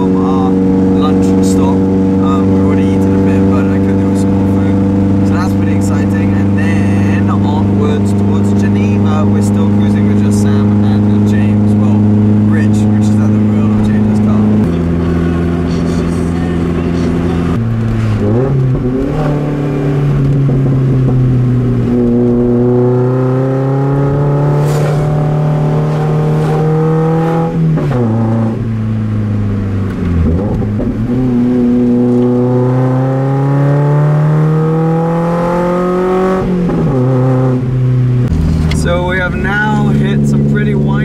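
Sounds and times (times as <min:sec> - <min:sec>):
car engine accelerating through gears: 0:00.0 - 0:41.0.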